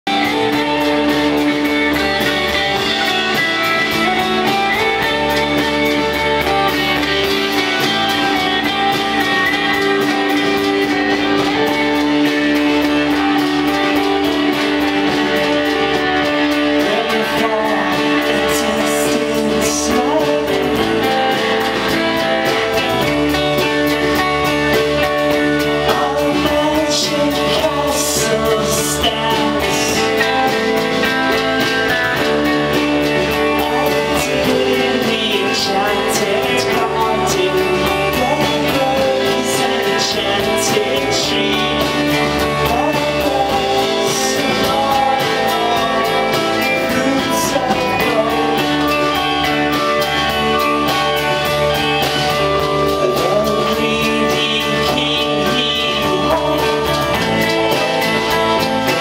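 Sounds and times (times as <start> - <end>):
bass: 0.0 - 59.0
drums: 0.0 - 59.0
electric guitar: 0.0 - 59.0
singing: 0.1 - 24.0, 24.7 - 59.0.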